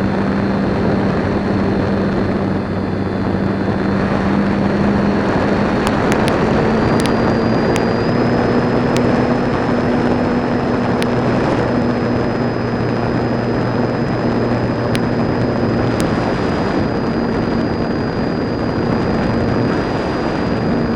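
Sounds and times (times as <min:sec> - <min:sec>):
electric motor and propeller hum: 0:00.0 - 0:20.9
wind rushing over airframe: 0:00.0 - 0:20.9.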